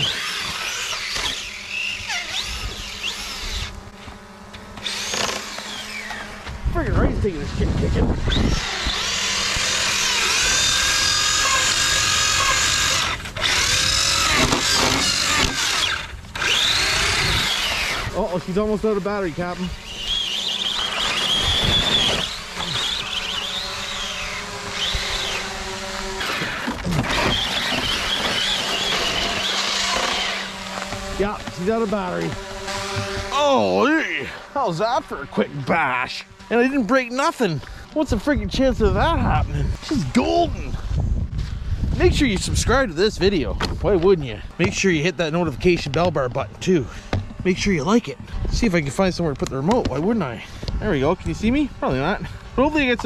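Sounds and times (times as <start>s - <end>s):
electric motor whining: 0.0s - 53.0s
steady low hum: 0.0s - 53.0s.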